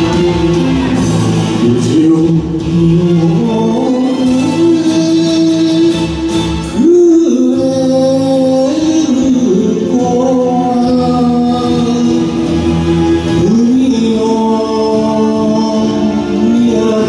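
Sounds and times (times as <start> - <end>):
karaoke backing track: 0.0 - 17.0
man singing: 0.0 - 17.0.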